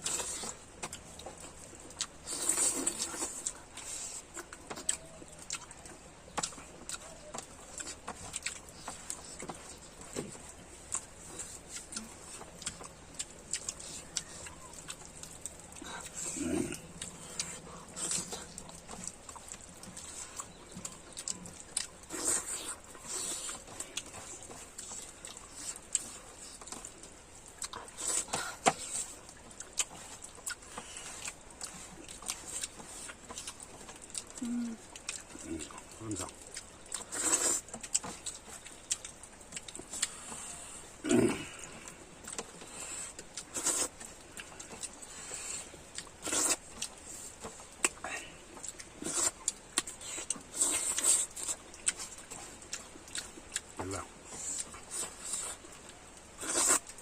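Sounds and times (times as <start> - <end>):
chewing and lip smacking: 0.0 - 57.0.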